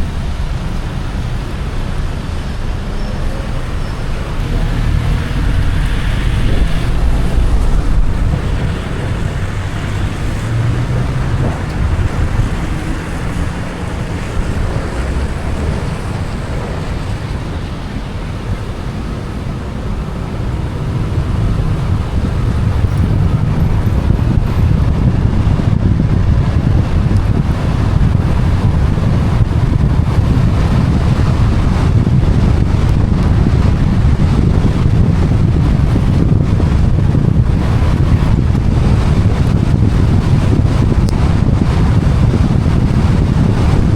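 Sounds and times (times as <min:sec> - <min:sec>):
car road noise: 0:00.0 - 0:43.9
wind rumble on microphone: 0:00.0 - 0:43.9.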